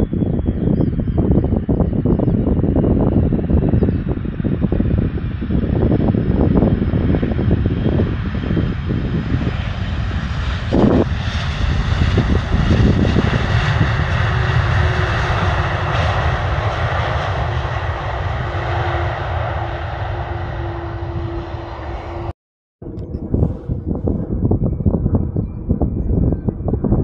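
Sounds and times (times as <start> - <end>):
faint steady engine whine: 0.0 - 26.7
jet engines rumbling and hissing: 0.0 - 27.0
wind buffeting microphone: 0.0 - 27.0.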